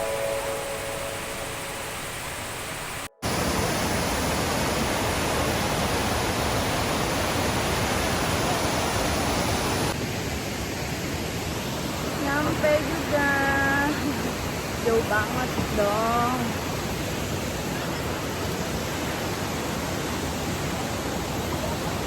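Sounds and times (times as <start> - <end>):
large waterfall rushing: 0.0 - 22.0.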